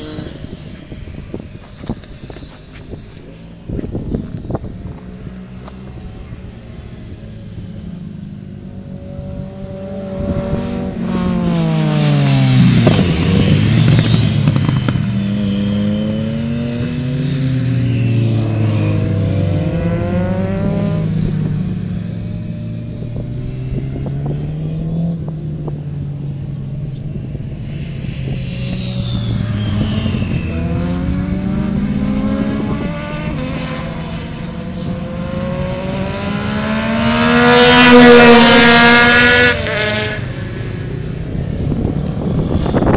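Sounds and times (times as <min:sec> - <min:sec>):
motorcycles racing past: 0:00.0 - 0:42.9.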